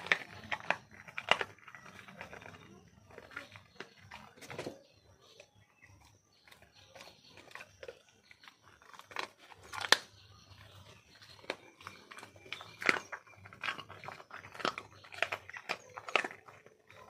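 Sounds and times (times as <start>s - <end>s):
bone cracking: 0.0s - 4.7s, 6.4s - 17.0s
dog chewing bone: 0.0s - 17.0s.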